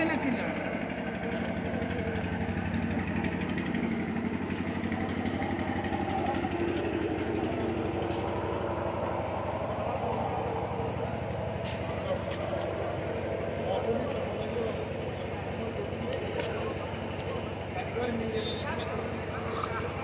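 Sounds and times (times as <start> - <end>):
faint voices: 0.0 - 20.0
small engine running: 0.0 - 20.0.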